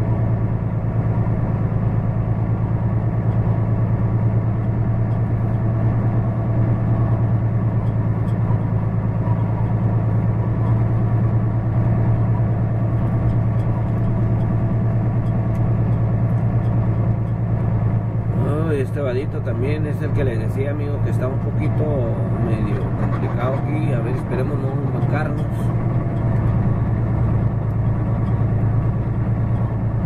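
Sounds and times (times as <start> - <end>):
truck diesel engine droning: 0.0 - 30.0.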